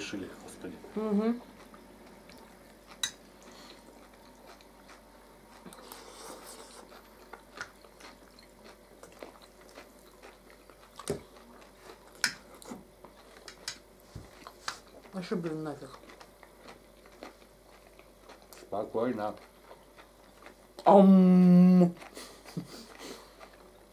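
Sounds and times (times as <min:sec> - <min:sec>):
quiet chewing: 0:00.9 - 0:20.9, 0:21.8 - 0:23.9.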